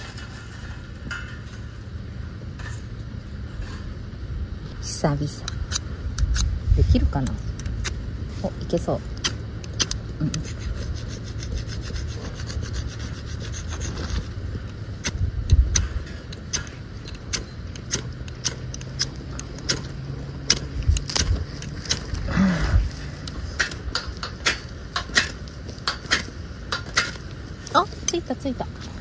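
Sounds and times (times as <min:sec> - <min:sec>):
striker scraping fire-starter rod: 0:00.0 - 0:04.2, 0:05.3 - 0:29.0.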